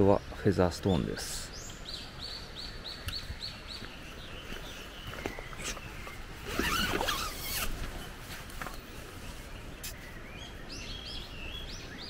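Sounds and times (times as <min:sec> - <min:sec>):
small bird singing: 0:00.0 - 0:12.0.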